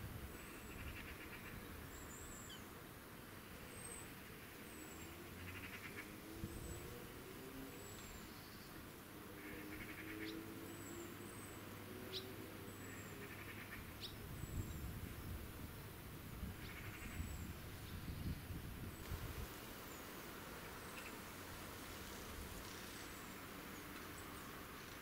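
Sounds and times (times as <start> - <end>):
small birds chirping: 0.3 - 2.8, 3.4 - 25.0.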